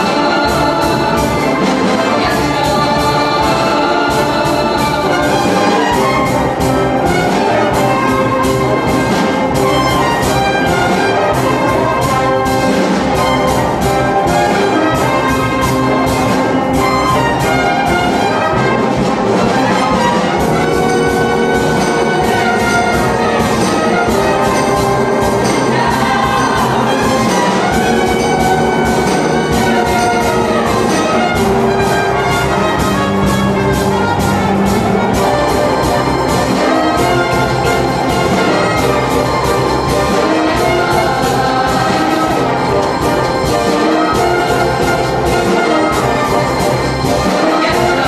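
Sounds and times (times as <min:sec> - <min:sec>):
driving percussion: 0:00.0 - 0:48.0
orchestral music with brass: 0:00.0 - 0:48.0.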